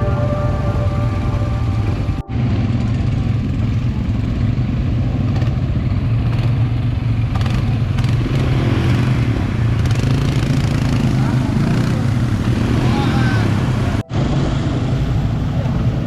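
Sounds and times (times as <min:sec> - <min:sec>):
quad bike engine droning: 0:00.0 - 0:16.0.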